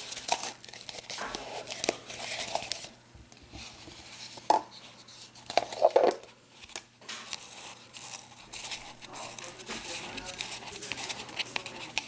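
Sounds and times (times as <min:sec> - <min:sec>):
paper crinkling and rustling: 0:00.0 - 0:03.0, 0:03.6 - 0:12.0.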